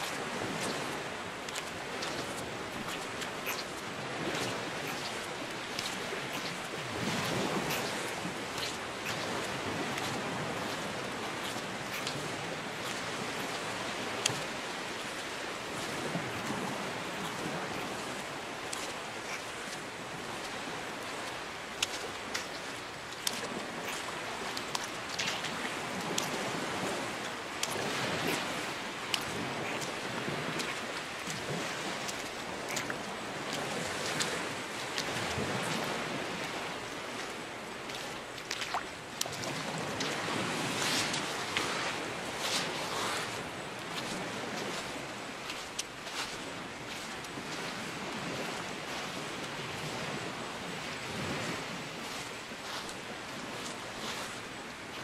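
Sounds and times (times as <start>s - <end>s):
wind on microphone: 0.0s - 21.4s, 22.0s - 45.5s
surf washing onto beach: 0.0s - 55.0s.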